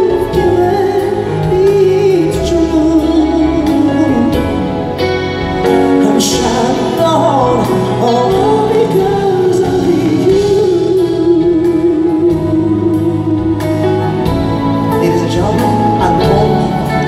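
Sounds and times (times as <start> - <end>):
band with piano: 0.0 - 17.0
person singing: 0.0 - 17.0.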